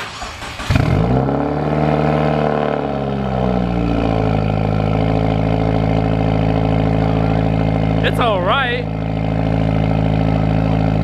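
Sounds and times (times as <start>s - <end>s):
loud car engine idling: 0.0s - 11.0s.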